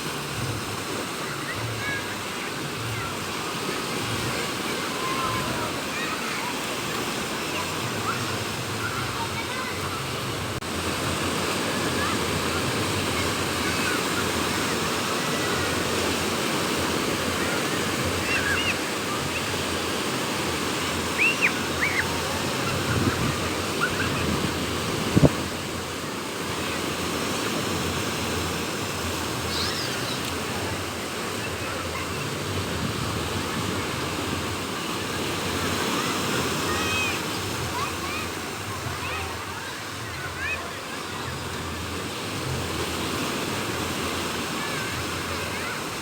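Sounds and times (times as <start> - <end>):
sea waves washing onto shore: 0.0 - 46.0
wind: 0.0 - 46.0.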